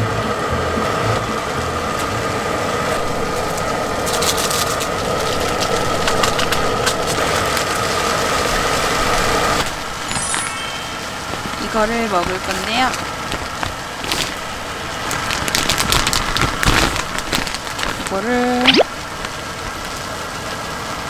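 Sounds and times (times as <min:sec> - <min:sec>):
wind: 0:00.0 - 0:21.0
hail beating on tent: 0:02.7 - 0:09.9, 0:11.3 - 0:21.0.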